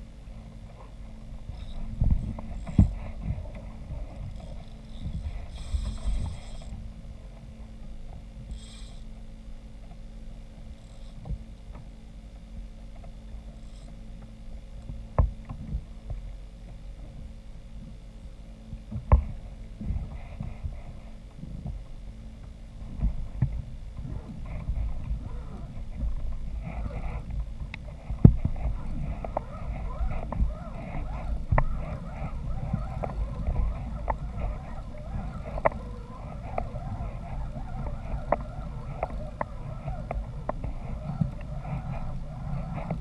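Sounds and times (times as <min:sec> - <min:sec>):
low rumble: 0:00.0 - 0:43.0.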